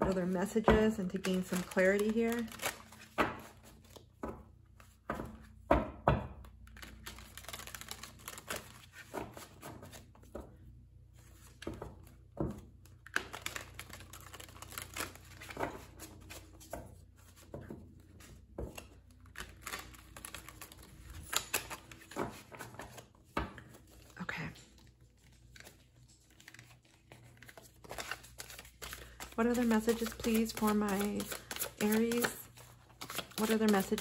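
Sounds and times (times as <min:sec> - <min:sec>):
cards being shuffled: 0:00.0 - 0:05.6, 0:06.4 - 0:10.5, 0:11.2 - 0:34.0.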